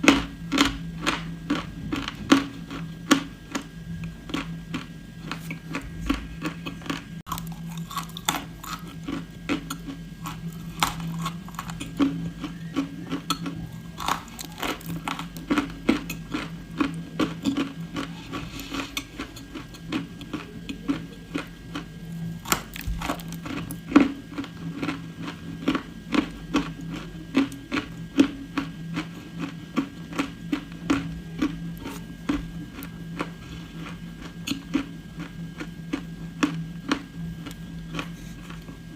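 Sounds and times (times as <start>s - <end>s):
crunching and chewing clay: 0.0s - 38.9s
steady low hum: 0.0s - 38.9s.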